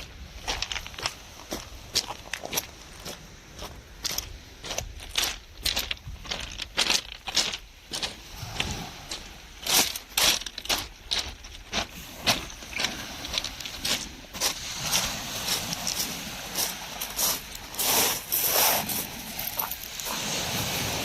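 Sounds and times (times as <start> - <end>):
footsteps walking: 0.0 - 20.3.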